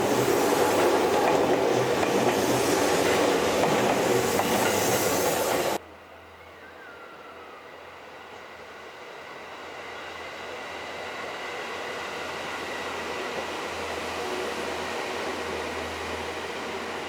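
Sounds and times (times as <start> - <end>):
electric train approaching: 0.0 - 17.0.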